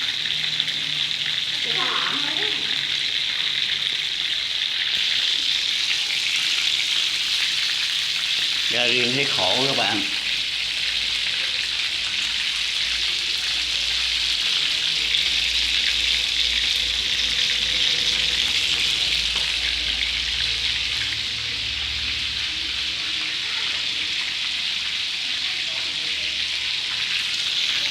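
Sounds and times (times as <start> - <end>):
chicken wings sizzling in oil: 0.0 - 27.9.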